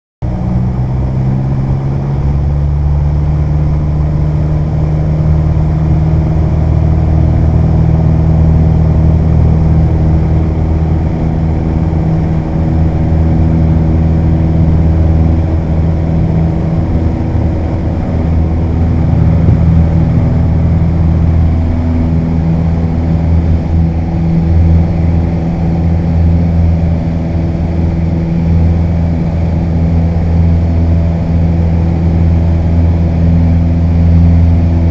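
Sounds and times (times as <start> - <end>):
propeller plane engine drone: 0.2 - 34.9.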